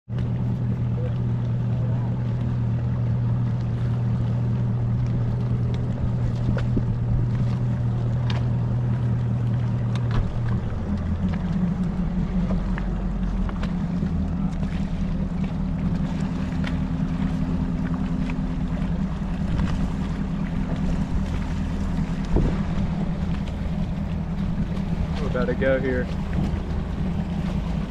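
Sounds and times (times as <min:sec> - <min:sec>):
outboard motor running hard: 0:00.1 - 0:27.9
wind and water rushing: 0:00.1 - 0:27.9.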